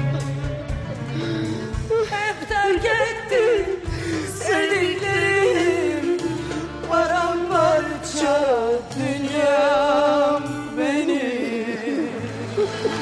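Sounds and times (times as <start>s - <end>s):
instrumental accompaniment: 0.0s - 13.0s
woman singing with vibrato: 1.8s - 13.0s.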